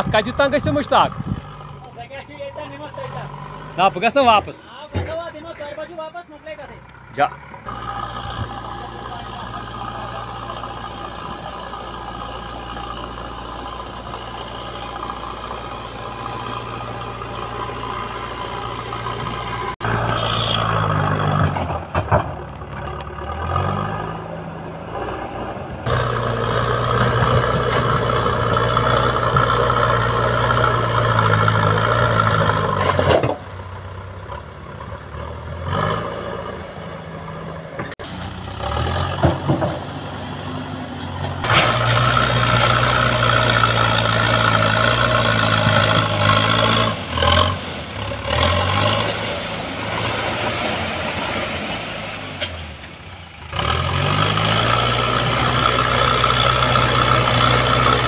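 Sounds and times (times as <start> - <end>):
backhoe loader diesel engine: 0.0 - 58.0.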